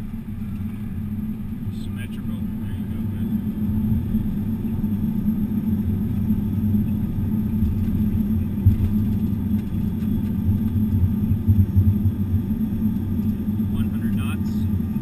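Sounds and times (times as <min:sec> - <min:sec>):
aircraft rolling on runway: 0:00.0 - 0:15.0
low bumps: 0:02.4 - 0:15.0.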